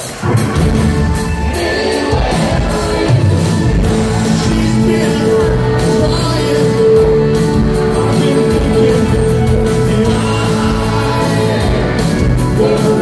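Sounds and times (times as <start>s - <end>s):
drums: 0.0s - 13.0s
man singing into microphone: 1.9s - 13.0s
electric bass: 2.1s - 13.0s.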